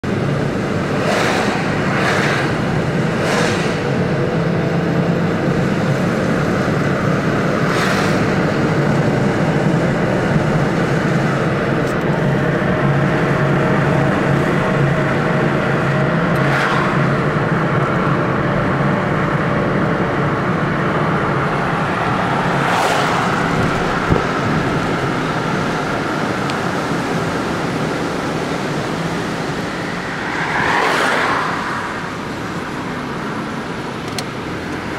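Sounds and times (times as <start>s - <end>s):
car engine and road noise: 0.0s - 34.9s.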